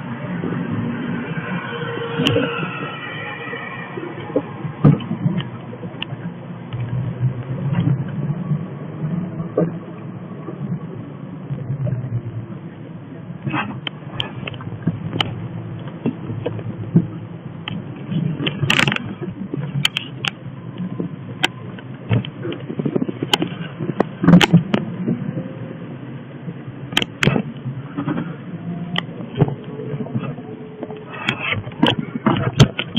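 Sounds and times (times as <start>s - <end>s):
car engine and road hum: 0.0s - 32.9s.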